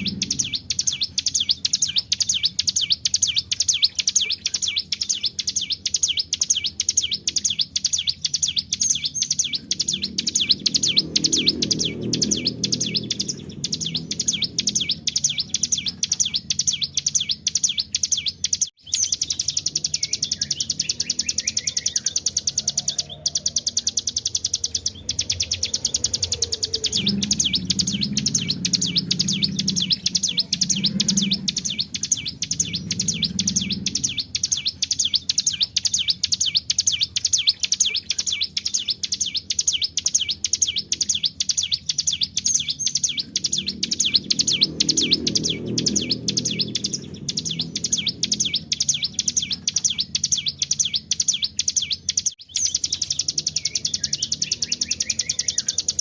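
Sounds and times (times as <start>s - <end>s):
bird singing rolling trill: 0.0s - 56.0s.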